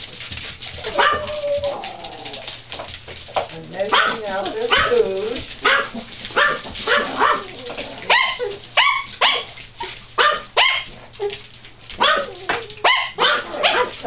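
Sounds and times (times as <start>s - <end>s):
small dogs barking: 0.7s - 2.6s, 3.8s - 14.0s.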